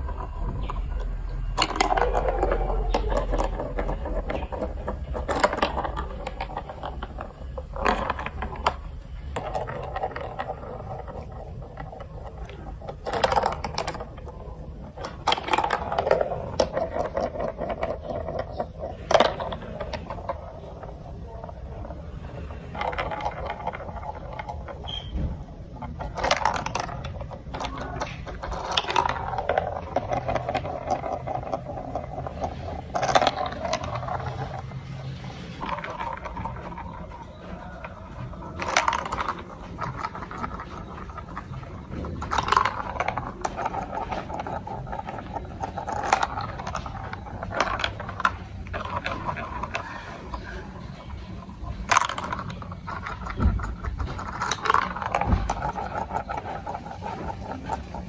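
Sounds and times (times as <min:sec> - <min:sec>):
marbles clicking against pieces: 0:00.0 - 0:58.0
marbles rolling on plastic track: 0:00.0 - 0:58.0.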